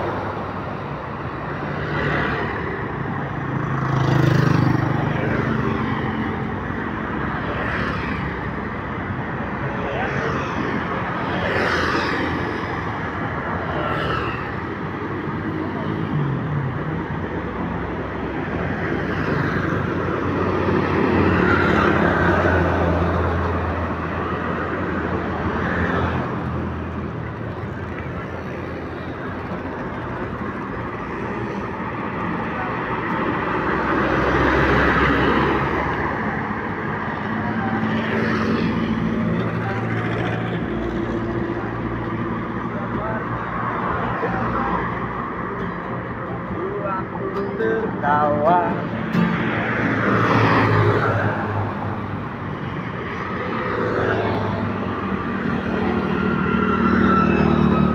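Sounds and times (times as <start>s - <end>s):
traffic engine hum: 0.0s - 57.9s
vehicles passing on road: 0.0s - 57.9s.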